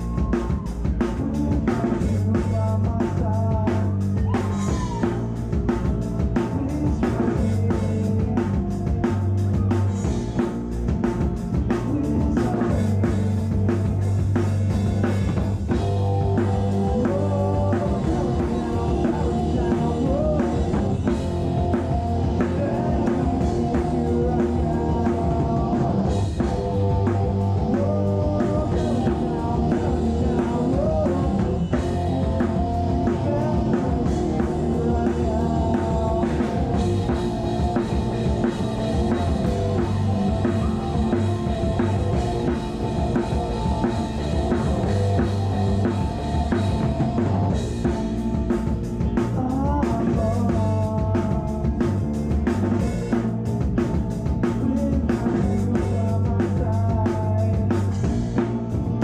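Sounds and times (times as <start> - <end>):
drum kit: 0.0 - 59.0
rock band playing live: 0.0 - 59.0
sustained electric guitar: 0.0 - 59.0.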